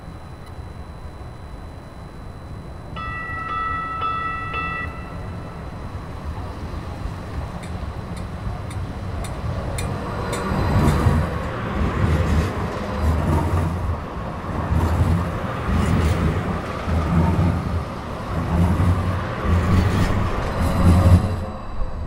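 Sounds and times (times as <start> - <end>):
light rail train rolling on rails: 2.8 - 22.0.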